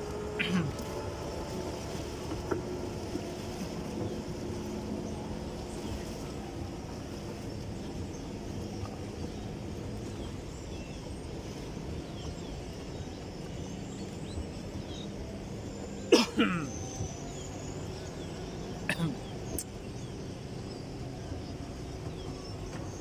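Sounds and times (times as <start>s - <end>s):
boat engines humming: 0.0s - 23.0s.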